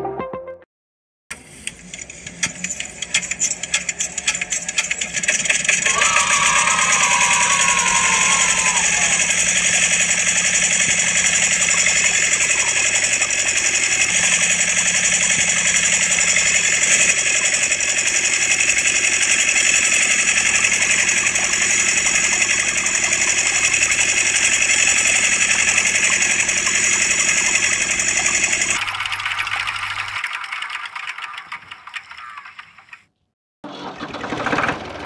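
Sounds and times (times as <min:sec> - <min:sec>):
miniature diesel engine running: 0:01.3 - 0:33.0, 0:33.6 - 0:35.0.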